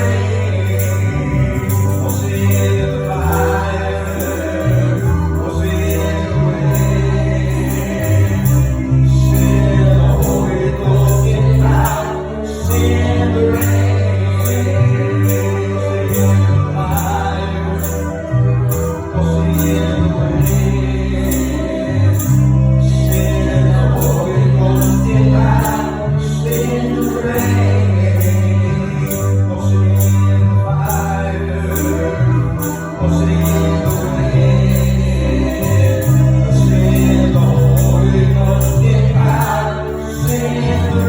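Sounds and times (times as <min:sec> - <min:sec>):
bass line: 0:00.0 - 0:41.0
gospel band playing: 0:00.0 - 0:41.0
voices singing: 0:00.0 - 0:41.0.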